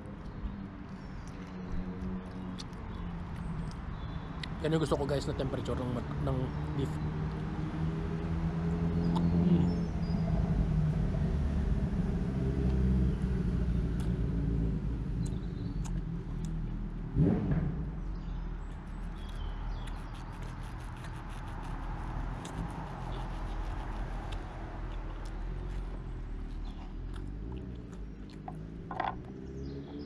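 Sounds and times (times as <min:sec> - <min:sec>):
vehicle engine running: 0:04.7 - 0:30.0.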